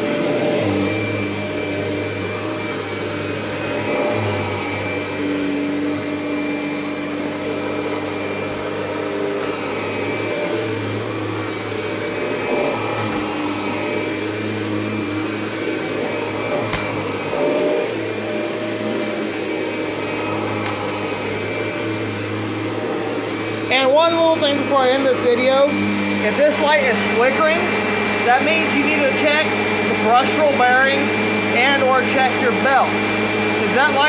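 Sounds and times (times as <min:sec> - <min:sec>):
upright vacuum running: 0:00.0 - 0:34.0.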